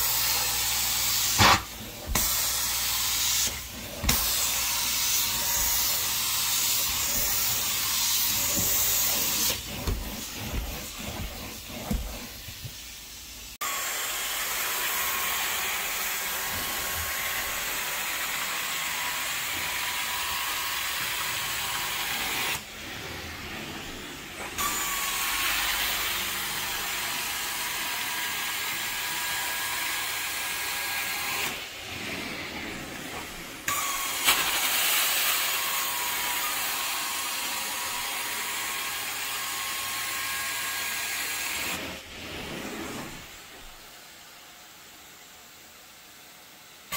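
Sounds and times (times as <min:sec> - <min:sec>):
carpet cleaner sucking and spraying: 0:00.0 - 0:46.9.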